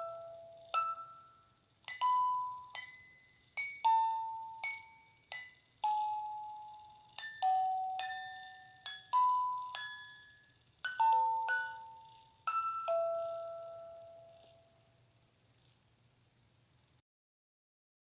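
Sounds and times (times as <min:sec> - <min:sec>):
lullaby melody on chimes: 0:00.0 - 0:14.9.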